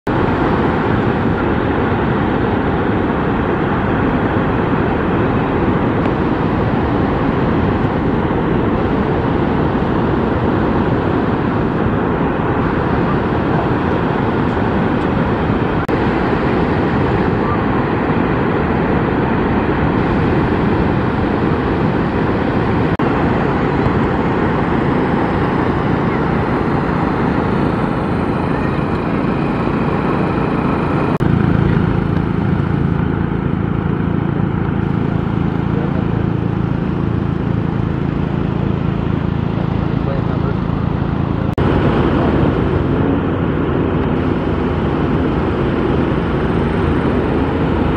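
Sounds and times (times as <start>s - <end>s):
surf at water's edge: 0.0s - 47.9s
wind: 0.0s - 47.9s.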